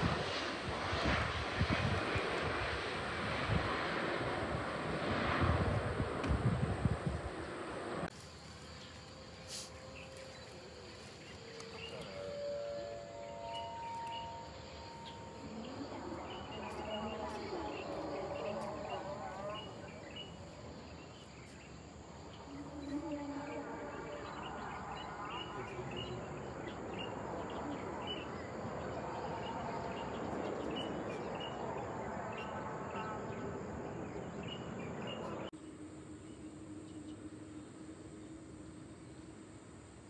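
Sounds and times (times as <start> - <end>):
distant jet engine noise: 0.0 - 40.0
insects chirping: 0.0 - 40.0
steady hum: 0.0 - 40.0.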